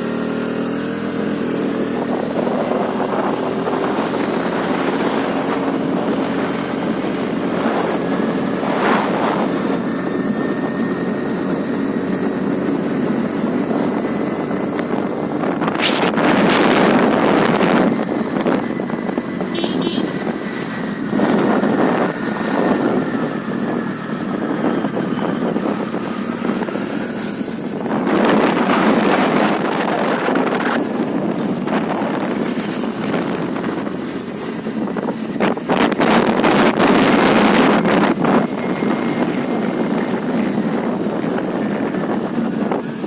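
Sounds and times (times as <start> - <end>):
road noise: 0.0 - 43.0
scooter engine: 0.0 - 43.0
wind buffeting microphone: 0.0 - 43.0.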